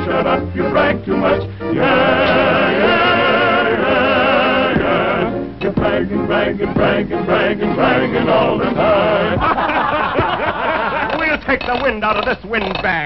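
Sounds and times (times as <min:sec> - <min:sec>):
chorus singing with orchestra: 0:00.0 - 0:11.1.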